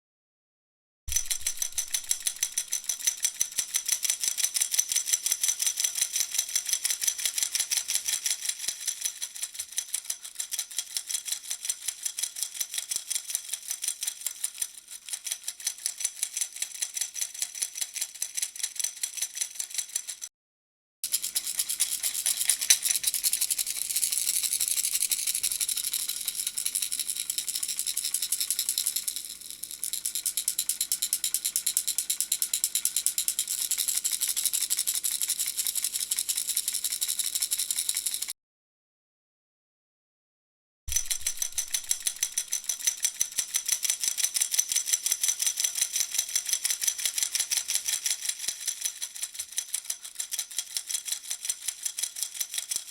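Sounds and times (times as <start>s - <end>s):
plastic baby rattle shaken: 1.1s - 20.3s, 21.0s - 38.3s, 40.9s - 52.9s.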